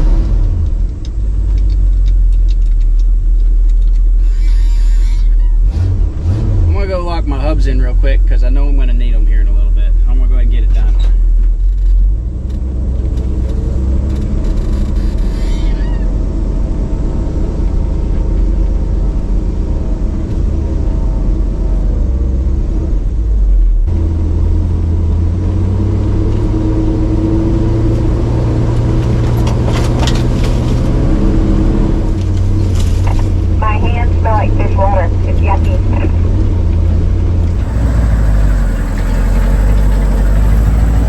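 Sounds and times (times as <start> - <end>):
truck engine running: 6.2 - 41.0.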